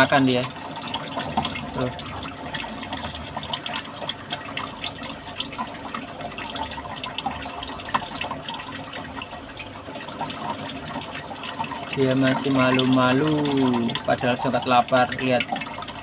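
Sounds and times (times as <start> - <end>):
water trickling with small splashes: 0.0 - 16.0.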